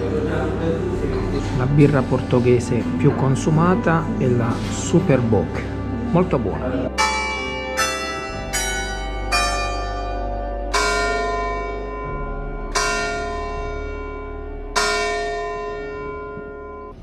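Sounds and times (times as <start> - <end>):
church bell ringing: 1.4 - 17.0.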